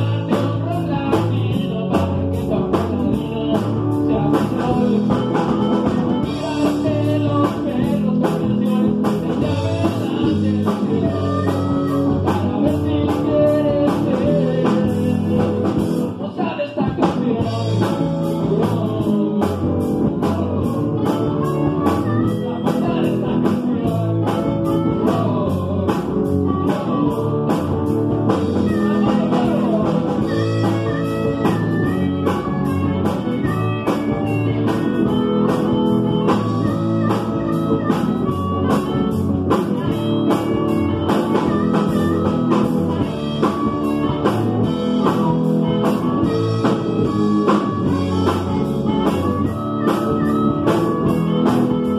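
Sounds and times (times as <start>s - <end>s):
blues-rock band playing: 0.0s - 51.9s.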